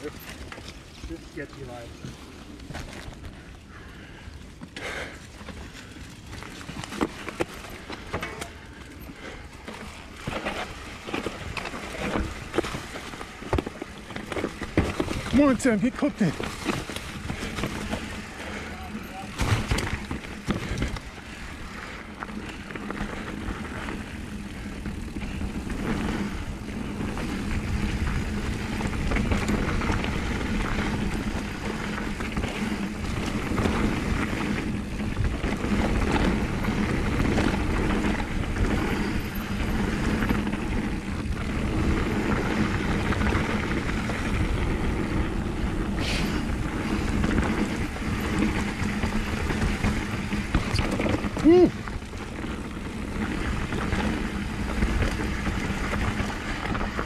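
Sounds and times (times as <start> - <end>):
bike knocking and rattling: 0.0 - 57.0
bike tyres rumbling over rock: 4.7 - 57.0.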